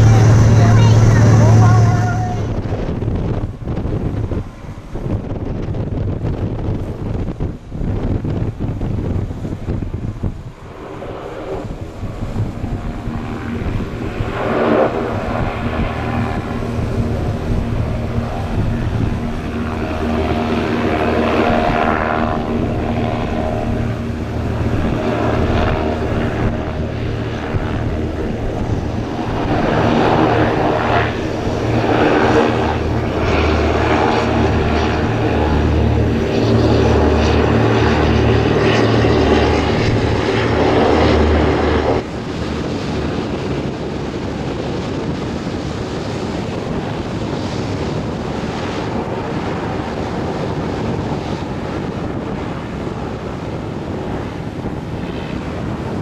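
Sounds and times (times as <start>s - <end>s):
rushing noise: 0.0s - 48.4s
hovercraft engine drone: 0.0s - 56.0s.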